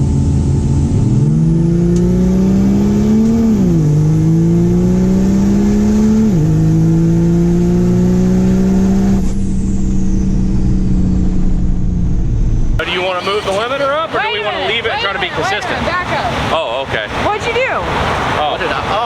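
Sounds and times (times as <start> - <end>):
truck engine accelerating hard: 0.0 - 19.0.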